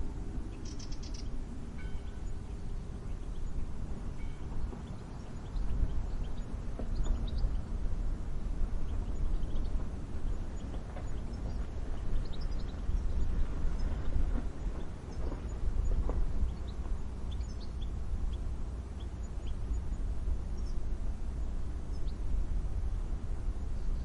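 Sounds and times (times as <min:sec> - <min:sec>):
wind rumbling and buffeting: 0:00.0 - 0:24.0
distant bird chirps: 0:00.4 - 0:07.8, 0:08.8 - 0:22.3.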